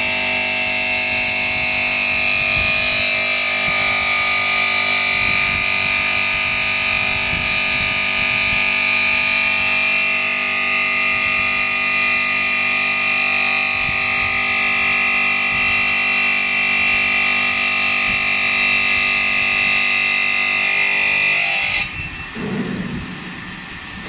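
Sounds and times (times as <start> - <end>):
saw blade cutting stone whine: 0.0 - 22.4.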